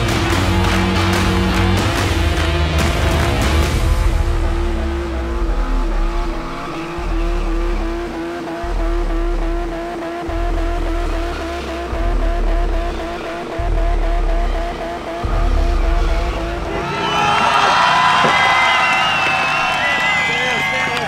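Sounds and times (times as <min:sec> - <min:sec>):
deep music bass pulsing: 0:00.0 - 0:17.3
car engine revving high: 0:00.0 - 0:21.0.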